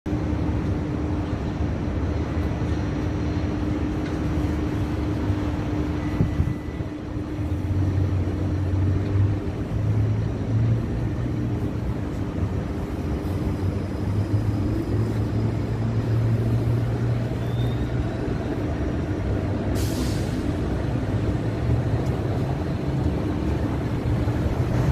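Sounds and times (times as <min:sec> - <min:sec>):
low engine hum: 0:00.1 - 0:24.9
street traffic rumble: 0:00.1 - 0:24.9.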